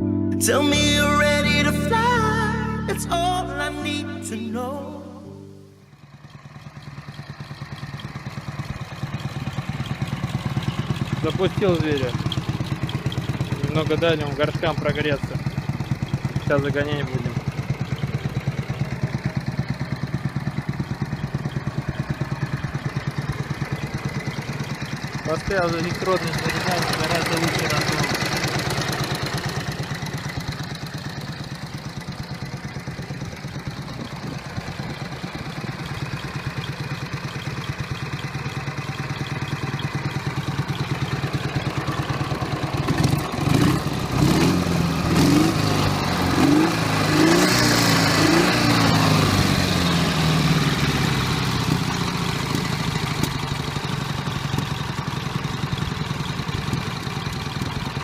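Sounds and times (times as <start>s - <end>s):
motorcycle engine revving: 5.5s - 58.0s.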